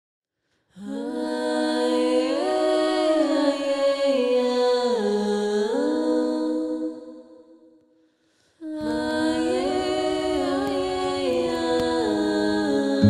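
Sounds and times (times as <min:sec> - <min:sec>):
a cappella vocal harmony: 0:00.6 - 0:13.0.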